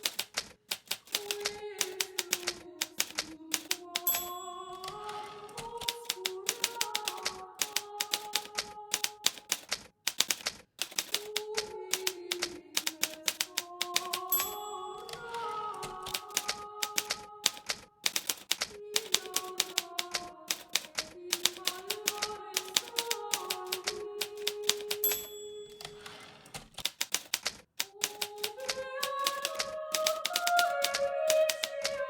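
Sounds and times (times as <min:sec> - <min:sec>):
manual typewriter typing: 0:00.0 - 0:32.0.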